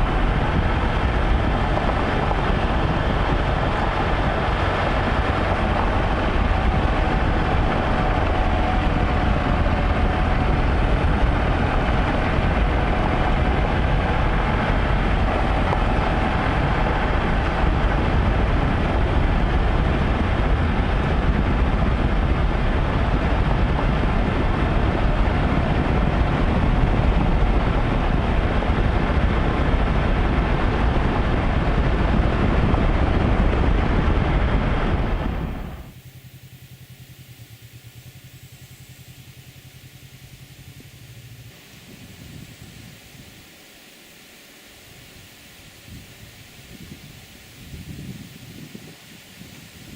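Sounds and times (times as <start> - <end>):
vehicle rumbling in motion: 0.0 - 49.9.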